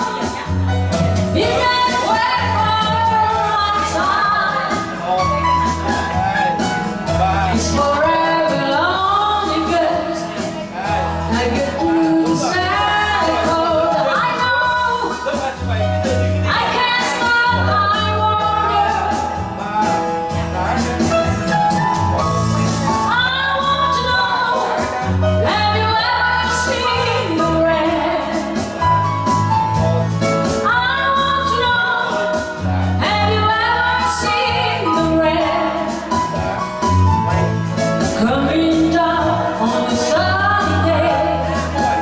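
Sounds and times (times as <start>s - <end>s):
bass and steady beat: 0.0s - 42.0s
woman singing pop song: 0.0s - 42.0s.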